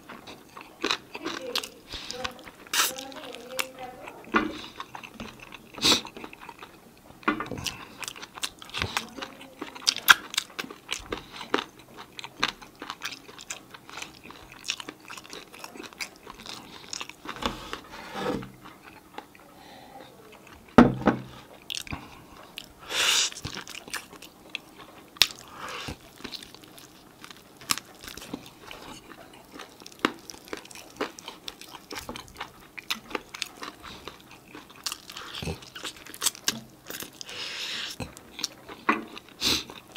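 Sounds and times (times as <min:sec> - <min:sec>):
chewing and biting chicken wings: 0:00.0 - 0:17.8, 0:21.4 - 0:39.9.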